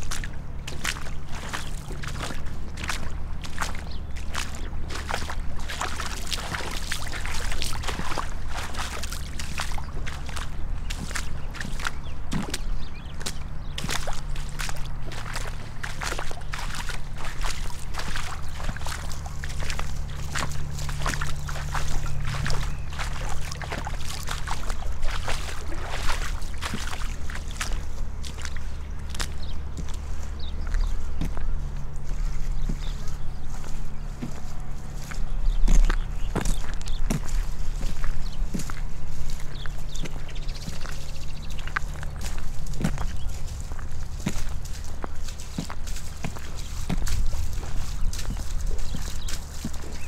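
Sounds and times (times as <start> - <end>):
boots splashing through water: 0.0 - 50.0
low steady rumble: 0.0 - 50.0.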